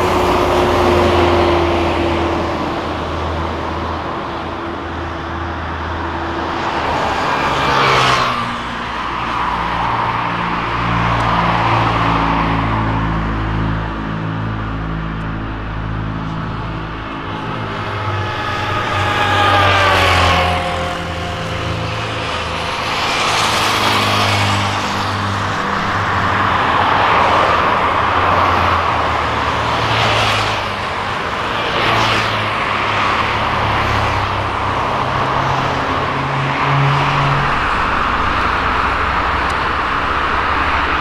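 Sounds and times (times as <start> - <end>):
jet engine roar: 0.0 - 41.0
road vehicles passing: 0.0 - 41.0.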